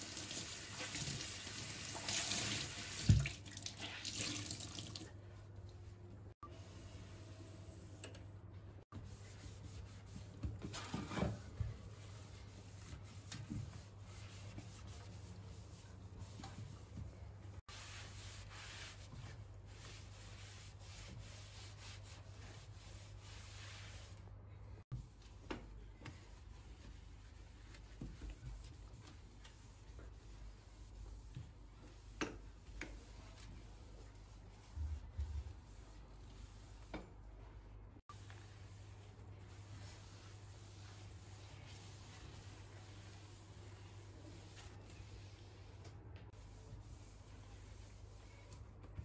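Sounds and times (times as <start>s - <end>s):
cloth wiping a steel sink: 5.2s - 49.0s.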